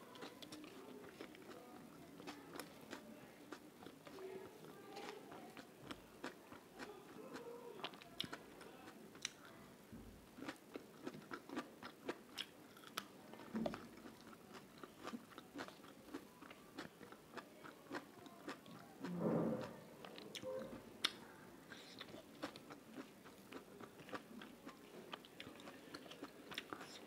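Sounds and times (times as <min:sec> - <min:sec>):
chewing and mouth sounds: 0:00.1 - 0:04.2, 0:05.0 - 0:09.6, 0:10.4 - 0:27.0.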